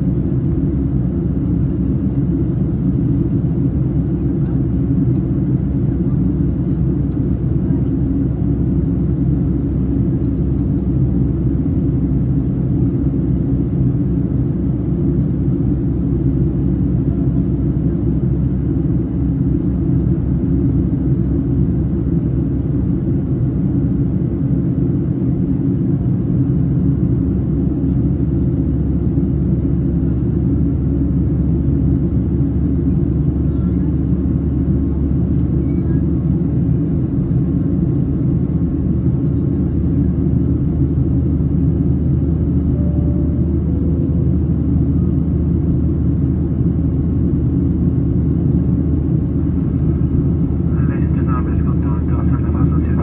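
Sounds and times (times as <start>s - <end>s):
jet engines low rumble: 0.0s - 53.0s.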